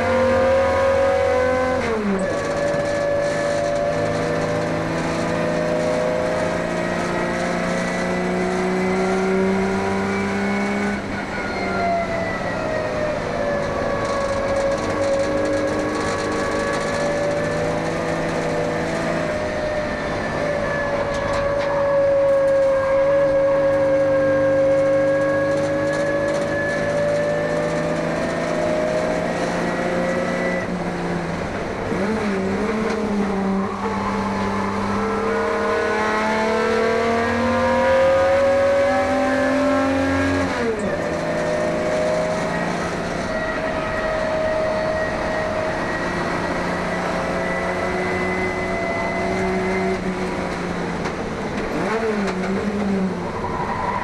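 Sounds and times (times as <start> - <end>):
race car engine revving: 0.0 - 11.8, 12.8 - 54.0.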